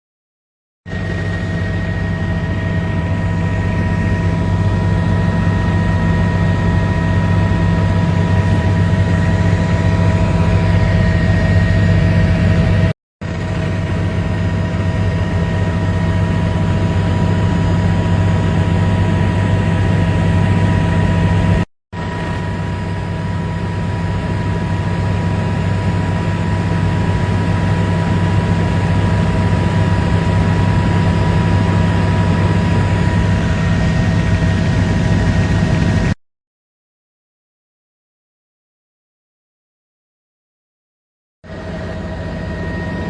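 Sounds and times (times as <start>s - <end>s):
helicopter running: 0.9s - 36.2s, 41.4s - 43.0s.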